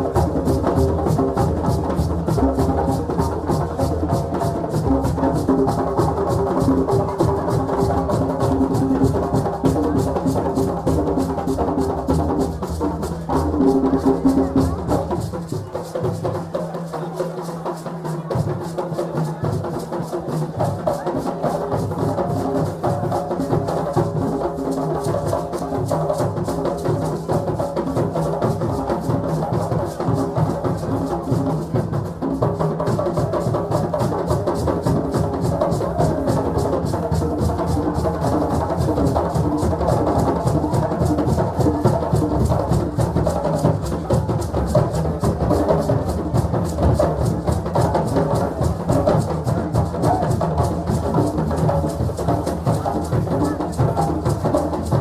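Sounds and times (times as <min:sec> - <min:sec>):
group of drums playing: 0:00.0 - 0:55.0.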